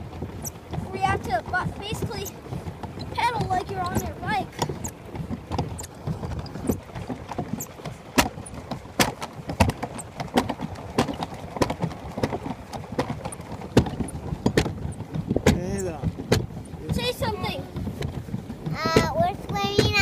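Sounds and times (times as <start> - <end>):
churning water rumble: 0.0 - 20.0
paddle wheel knocks: 0.0 - 20.0.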